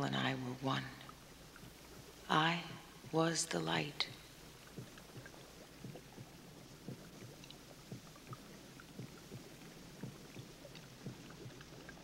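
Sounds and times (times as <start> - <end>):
water plopping and lapping: 0.7 - 12.0.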